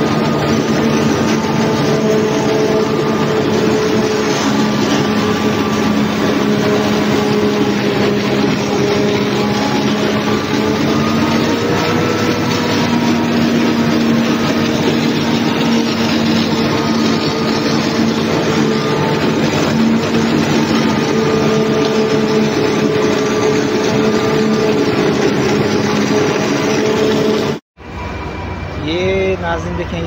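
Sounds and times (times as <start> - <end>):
forage harvester drone: 0.0 - 30.0.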